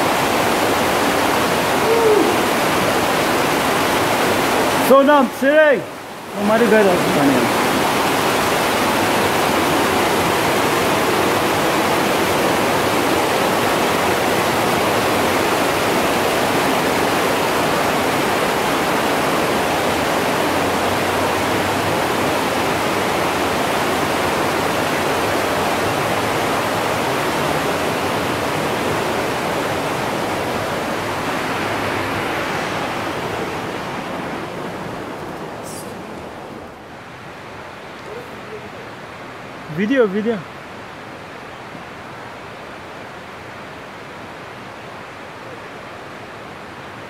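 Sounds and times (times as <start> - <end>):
water rushing in a cave: 0.0 - 47.0.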